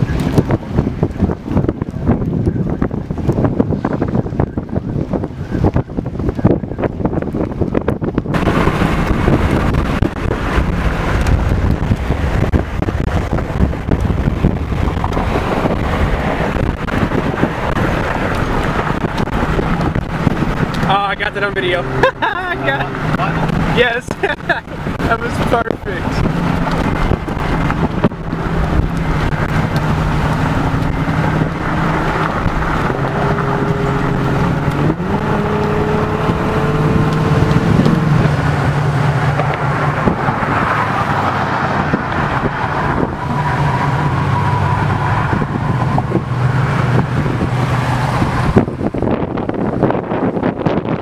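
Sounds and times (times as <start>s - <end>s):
car engine running: 0.0s - 51.0s
road and wind noise: 0.0s - 51.0s.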